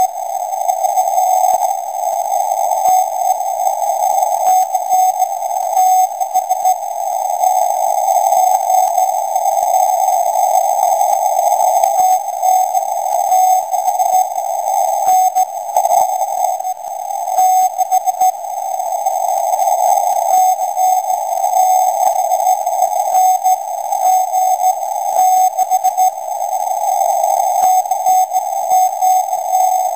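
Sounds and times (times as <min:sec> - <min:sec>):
static crackle: 0:00.0 - 0:29.9.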